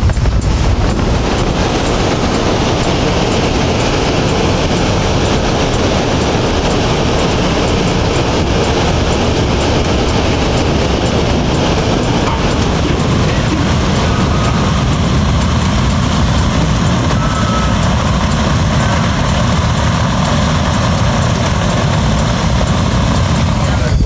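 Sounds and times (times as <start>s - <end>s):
aircraft engines rumbling: 0.0s - 24.0s.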